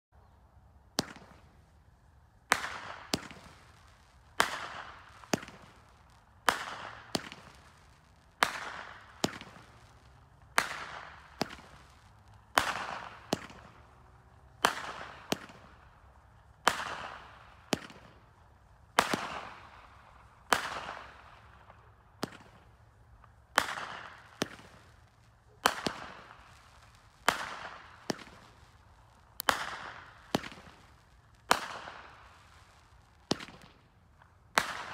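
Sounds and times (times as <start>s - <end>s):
firework bangs: 1.0s - 1.7s, 2.4s - 34.9s.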